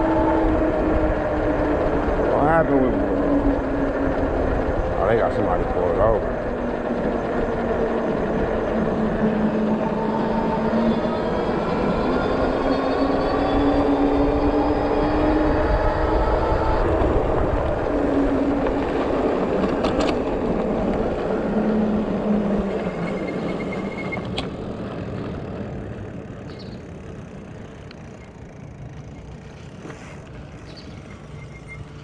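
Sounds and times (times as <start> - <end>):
vehicle engine and tyre noise: 0.0 - 32.0.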